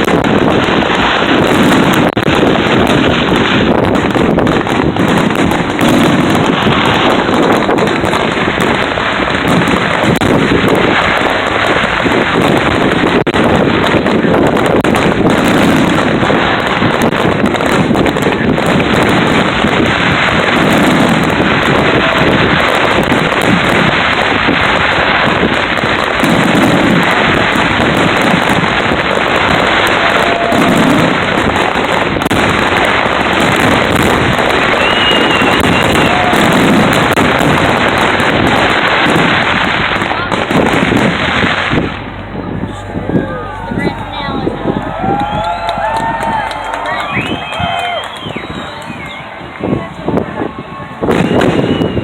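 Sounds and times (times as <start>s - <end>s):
deep firework bangs: 0.0s - 52.0s
fireworks crackling: 0.0s - 52.0s.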